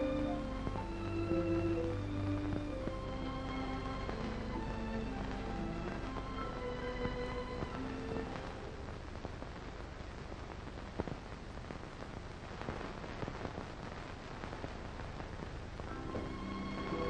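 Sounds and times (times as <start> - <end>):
hiss and crackle of old recording: 0.0 - 17.0.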